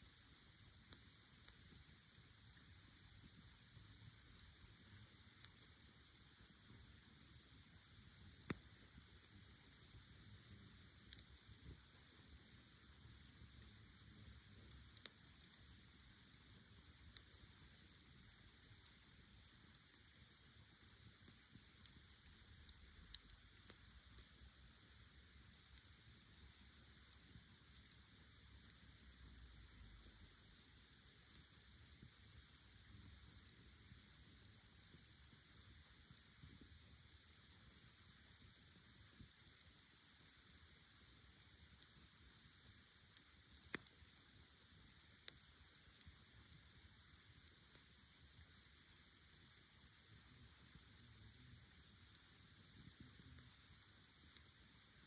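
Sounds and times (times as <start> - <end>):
campfire crackles: 0.0 - 55.0
crickets chirping: 0.0 - 55.0.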